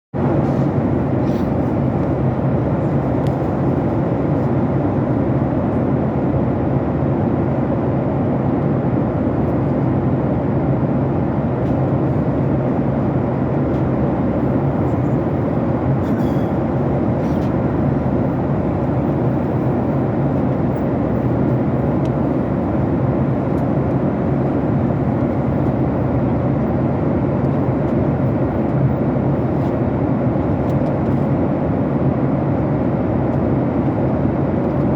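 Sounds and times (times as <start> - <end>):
airliner cabin engine noise: 0.1 - 34.9.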